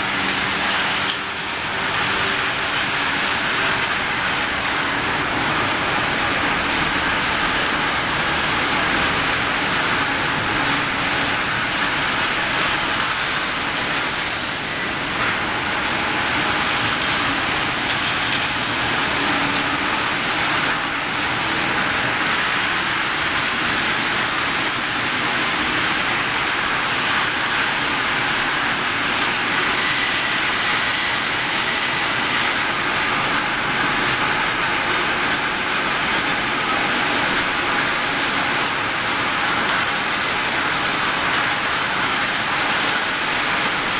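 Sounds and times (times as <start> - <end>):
rolling mill machinery din: 0.0 - 43.9.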